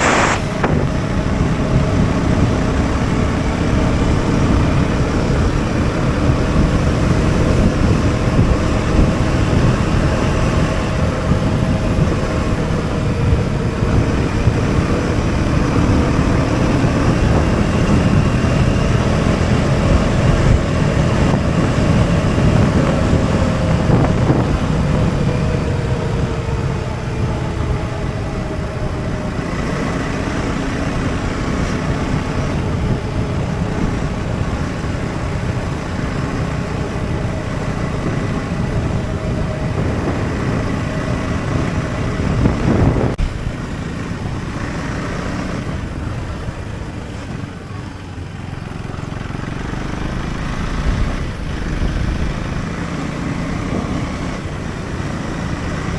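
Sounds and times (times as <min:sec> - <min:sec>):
wind rumble on microphone: 0:00.0 - 0:48.3, 0:50.2 - 0:55.9
motorcycle engine running: 0:00.0 - 0:55.9.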